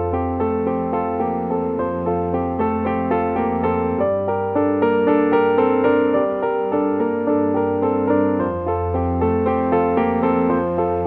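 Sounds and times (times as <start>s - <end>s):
keyboard music: 0.0s - 11.0s.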